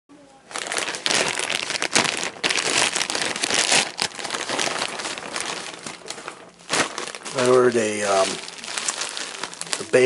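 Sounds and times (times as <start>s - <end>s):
plastic mailer bag crinkling: 0.5s - 10.0s.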